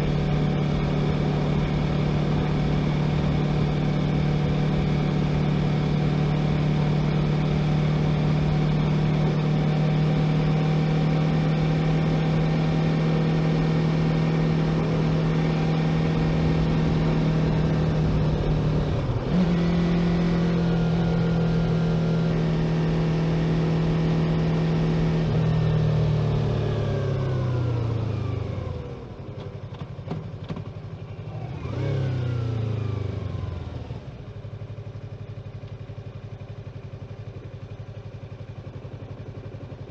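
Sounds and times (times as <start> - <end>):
motorcycle engine revving: 0.0 - 39.8.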